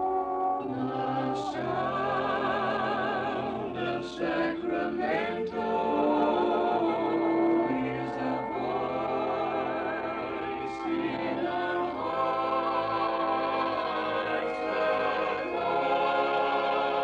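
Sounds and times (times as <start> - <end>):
vocal group singing jingle: 0.6 - 17.0.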